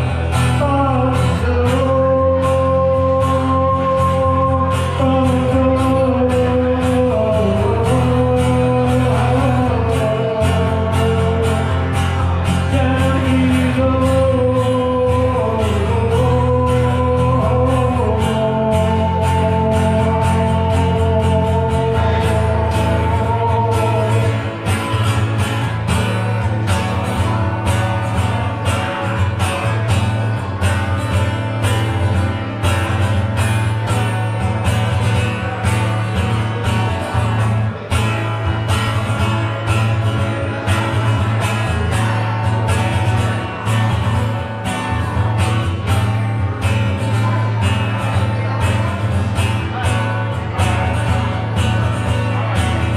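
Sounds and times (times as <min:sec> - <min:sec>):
heavy bass line: 0:00.0 - 0:52.9
person singing: 0:00.0 - 0:52.9.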